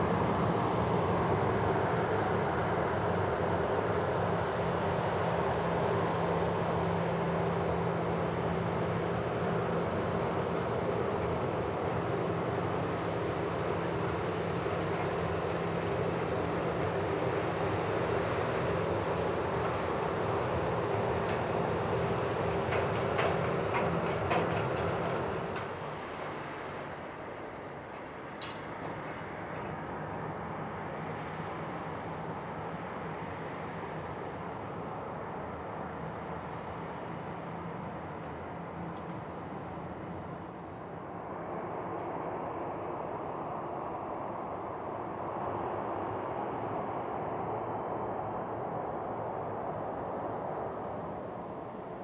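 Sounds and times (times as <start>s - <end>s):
jet engine rumble and whine: 0.0s - 52.0s.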